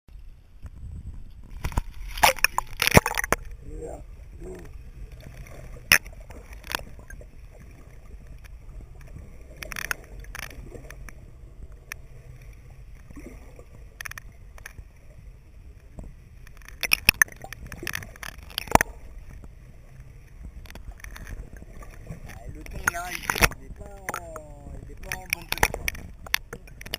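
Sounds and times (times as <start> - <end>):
low rumble of water and boat: 0.1 - 26.9.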